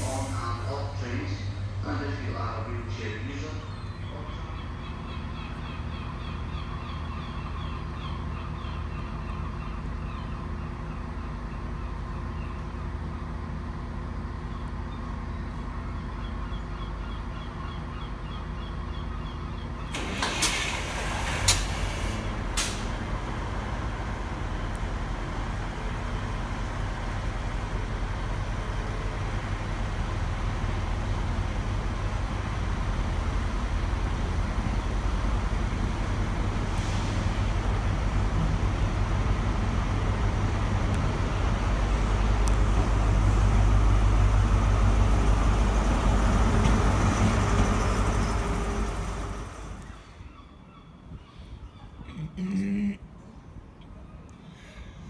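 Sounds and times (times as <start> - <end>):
diesel train engine rumble: 0.0 - 55.0.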